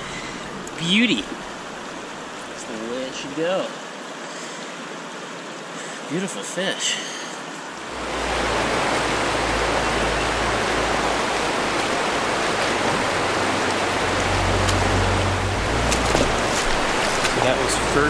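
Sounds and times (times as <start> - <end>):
river rushing over riffles: 0.0 - 18.0.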